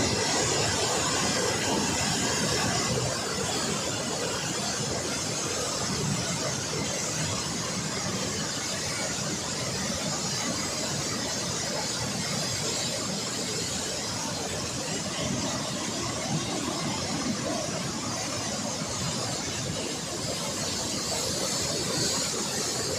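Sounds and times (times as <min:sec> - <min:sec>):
water rushing through dam spillway: 0:00.0 - 0:22.9.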